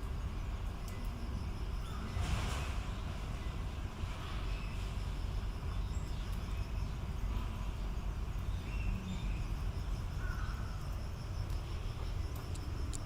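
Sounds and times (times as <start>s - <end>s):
faint high insect tone: 0.0s - 13.0s
low outdoor rumble: 0.0s - 13.0s.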